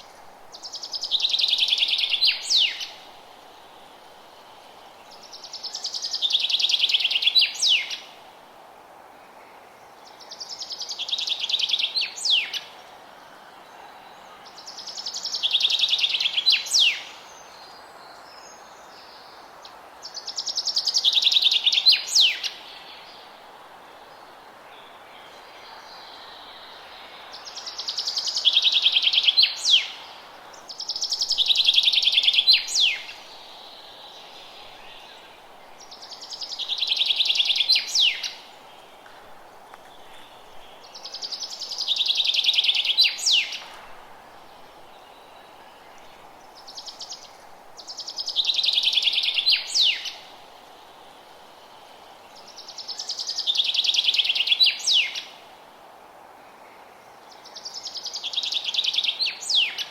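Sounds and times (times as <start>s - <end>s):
songbird singing: 0.0s - 8.3s, 9.1s - 55.6s, 56.3s - 59.9s
faint background hiss: 0.0s - 59.9s.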